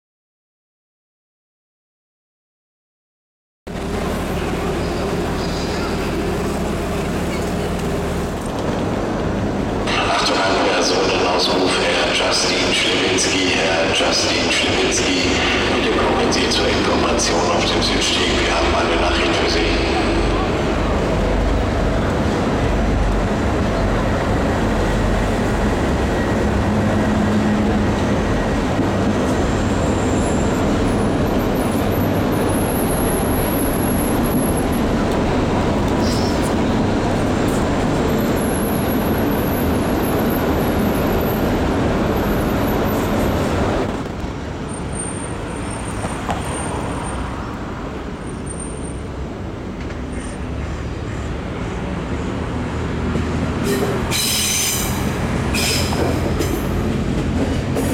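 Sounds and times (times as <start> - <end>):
wheel and rail noise: 3.7 - 10.1, 14.6 - 57.9
diesel train engines droning: 3.7 - 57.9.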